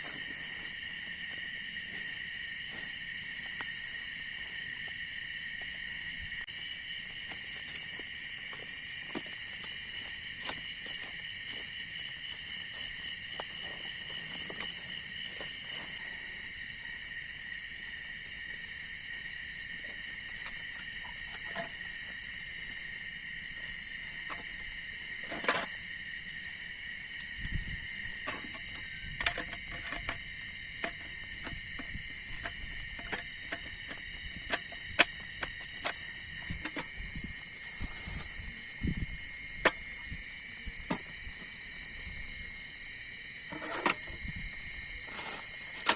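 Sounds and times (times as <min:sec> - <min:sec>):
forest insects chorus: 0:00.0 - 0:45.9.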